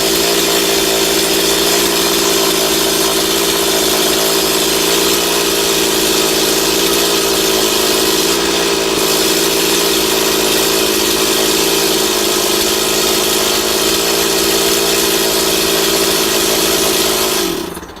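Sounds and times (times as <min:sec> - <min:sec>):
chainsaw engine running: 0:00.0 - 0:18.0.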